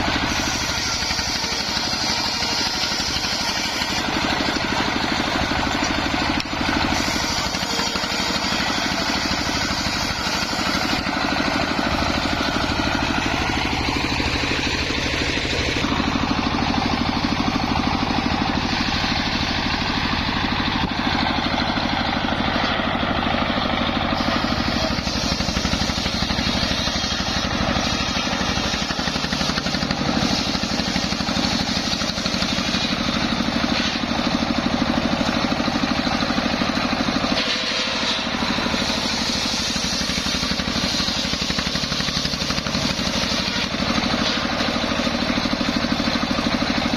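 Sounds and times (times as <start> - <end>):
engine-driven sawmill running: 0.0 - 46.9.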